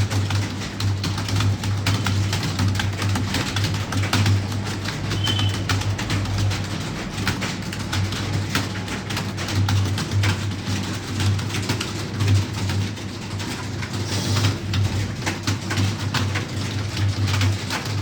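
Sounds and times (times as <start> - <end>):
keyboards clattering: 0.0 - 18.0.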